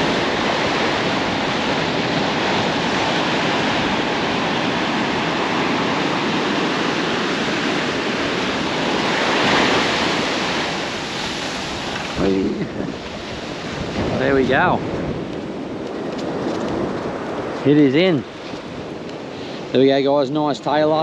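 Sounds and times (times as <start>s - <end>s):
surf washing onto beach: 0.0s - 21.0s
wind buffeting microphone: 0.0s - 21.0s.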